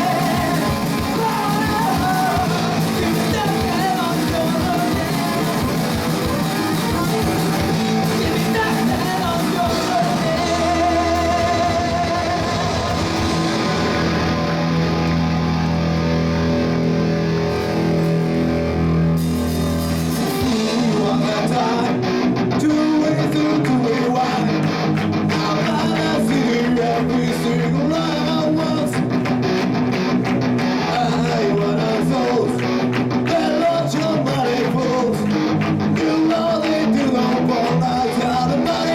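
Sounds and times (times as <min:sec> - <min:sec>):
rock music with guitar and bass: 0:00.0 - 0:38.9.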